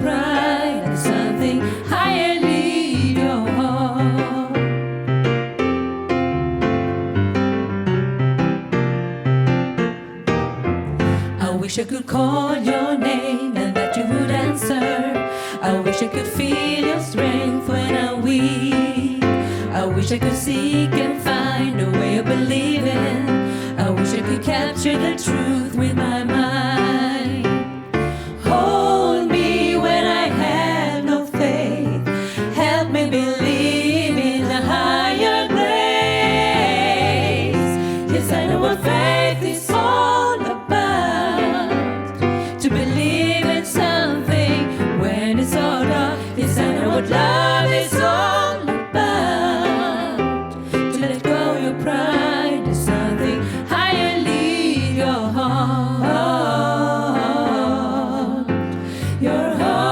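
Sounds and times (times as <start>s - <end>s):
women's vocal group singing harmony: 0.0s - 5.0s, 11.1s - 59.9s.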